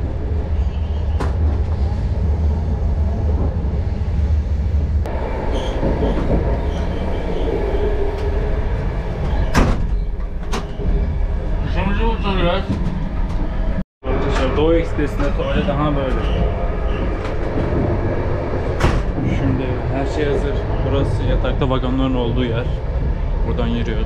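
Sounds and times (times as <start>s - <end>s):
train carriage rumbling on rails: 0.0s - 24.0s.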